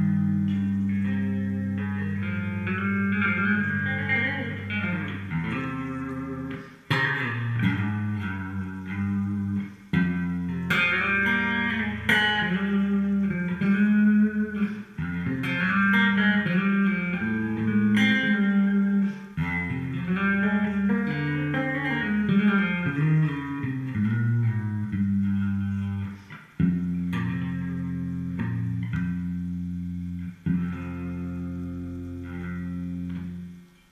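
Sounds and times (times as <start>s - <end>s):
electric guitar tapping: 0.0s - 33.9s
loud electric guitar passage: 0.0s - 33.9s
low bass notes: 0.0s - 33.9s.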